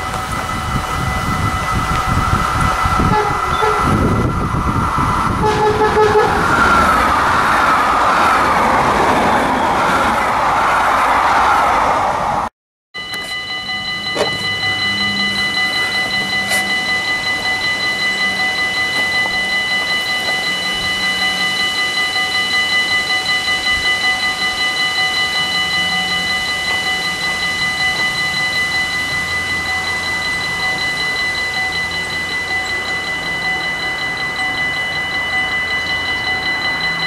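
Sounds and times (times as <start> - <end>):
level crossing warning bell: 0.0 - 10.8, 13.0 - 37.0.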